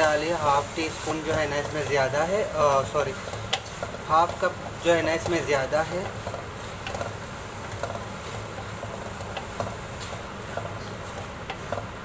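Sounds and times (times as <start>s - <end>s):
spoon stirring in a pan: 0.2s - 12.0s.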